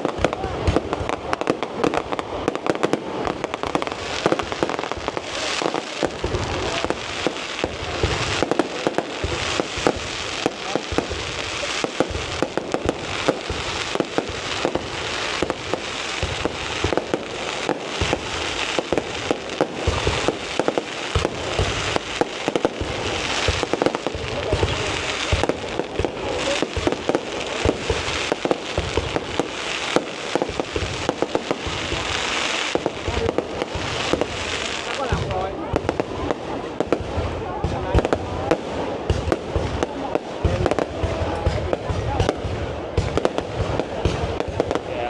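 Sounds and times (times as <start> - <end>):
fireworks booming: 0.0 - 45.0
fireworks cracking: 0.0 - 45.0.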